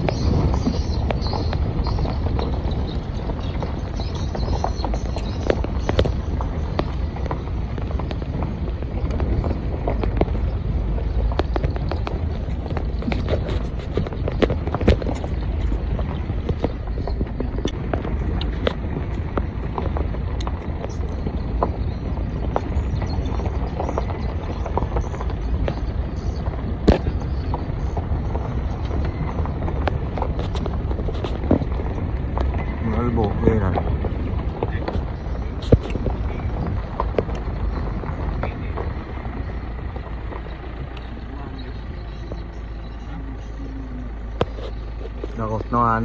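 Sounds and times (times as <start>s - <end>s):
car rumbling on gravel: 0.0s - 46.0s
stones crunching under tyres: 0.0s - 46.0s.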